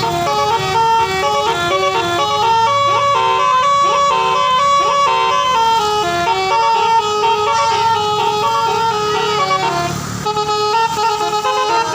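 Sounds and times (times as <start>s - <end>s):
bus horn playing a tune: 0.0s - 11.9s.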